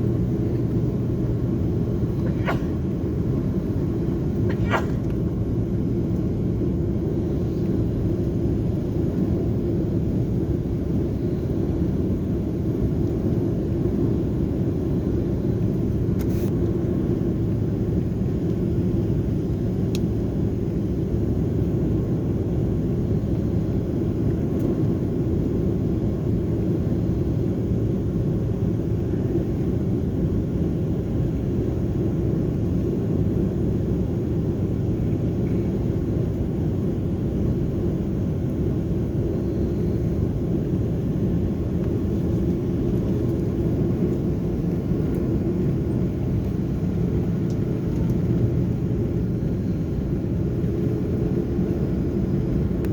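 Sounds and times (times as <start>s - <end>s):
airliner cabin engine rumble: 0.0s - 52.9s.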